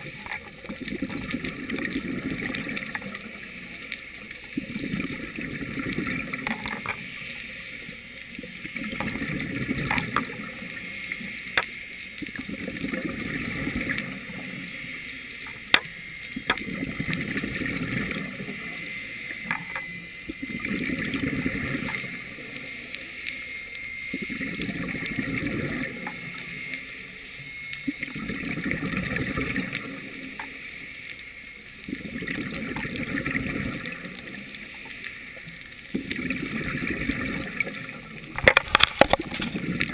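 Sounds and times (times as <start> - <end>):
exhaled bubbles underwater: 0.0 - 30.8, 31.6 - 39.9.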